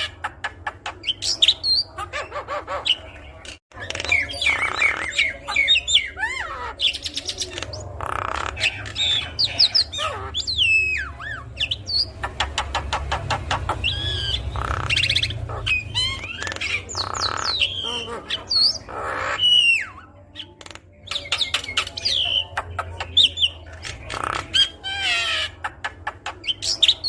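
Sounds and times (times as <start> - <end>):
bird singing varied song: 0.0 - 27.0.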